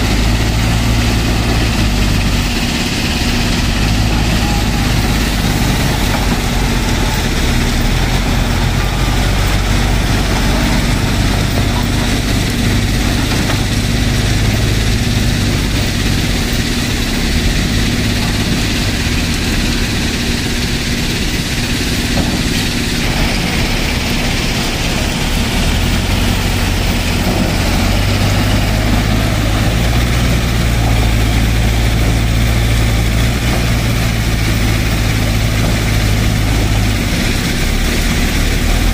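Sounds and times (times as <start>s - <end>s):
diesel engine of backhoe loader: 0.0s - 38.9s.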